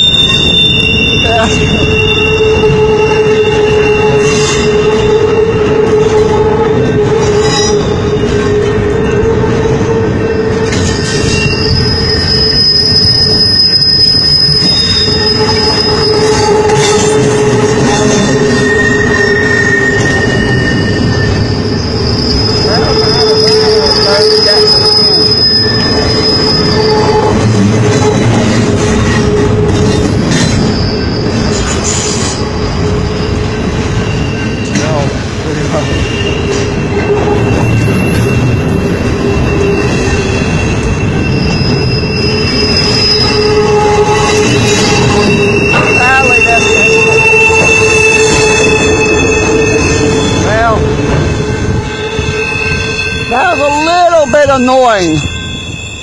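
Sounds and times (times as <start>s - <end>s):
high-pitched wheel squeal: 0.0s - 56.0s
train wheels rumbling on rails: 0.0s - 56.0s.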